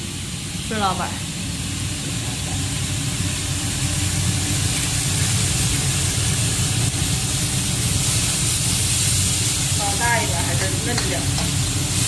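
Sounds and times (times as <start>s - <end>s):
gas burner rumble: 0.0s - 12.0s
meat sizzling in a wok: 0.0s - 12.0s.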